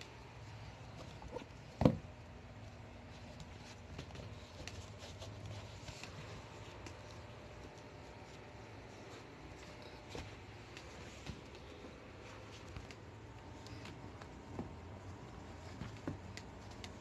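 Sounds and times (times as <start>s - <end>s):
shoes rustling and clicking: 0.3s - 17.0s.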